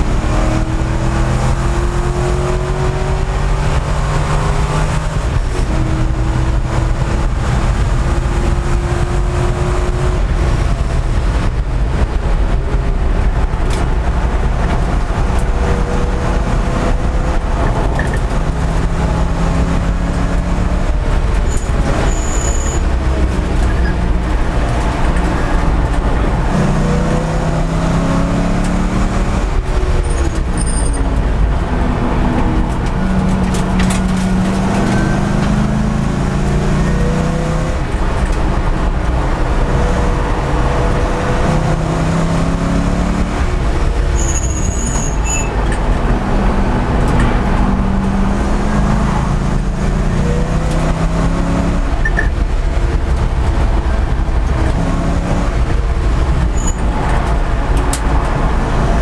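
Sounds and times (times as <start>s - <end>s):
race car engine: 0.0s - 59.0s
road and wind rumble: 0.0s - 59.0s.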